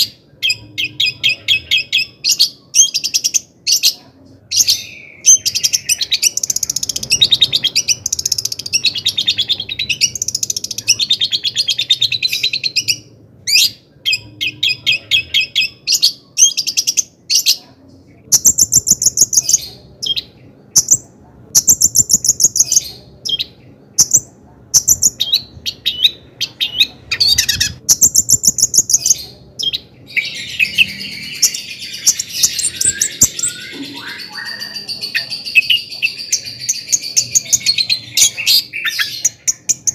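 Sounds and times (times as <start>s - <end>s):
bird chattering song: 0.0s - 17.6s, 18.2s - 39.9s.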